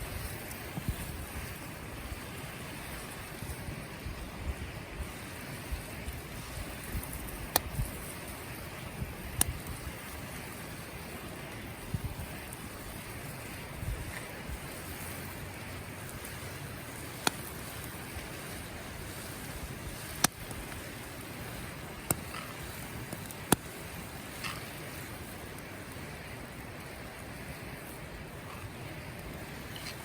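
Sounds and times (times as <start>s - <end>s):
burning wood popping: 0.0s - 30.0s
campfire hissing: 0.0s - 30.0s.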